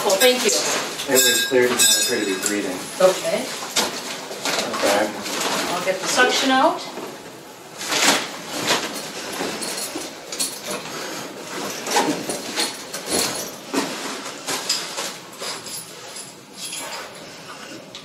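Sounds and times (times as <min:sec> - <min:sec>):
plastic packaging rustling: 0:00.1 - 0:16.5.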